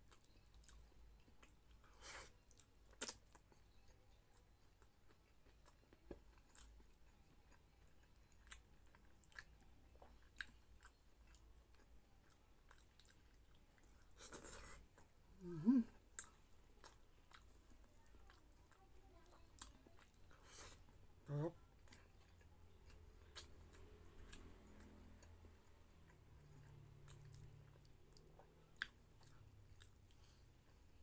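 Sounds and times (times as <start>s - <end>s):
person chewing: 0.0s - 31.0s.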